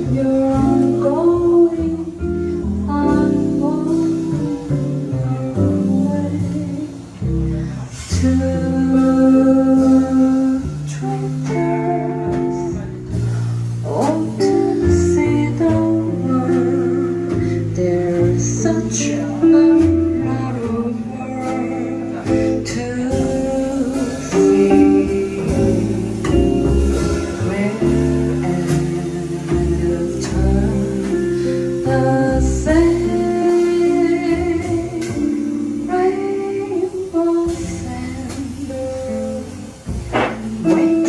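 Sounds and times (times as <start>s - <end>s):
archtop guitar: 0.0s - 41.0s
drum kit: 0.0s - 41.0s
upright double bass: 0.0s - 41.0s
woman singing: 0.0s - 41.0s.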